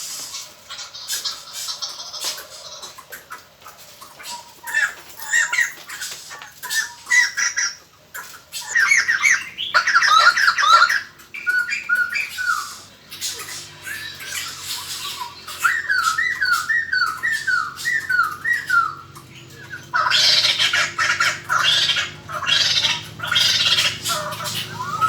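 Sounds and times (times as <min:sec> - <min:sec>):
laughingthrushes chattering calls: 0:00.0 - 0:25.0.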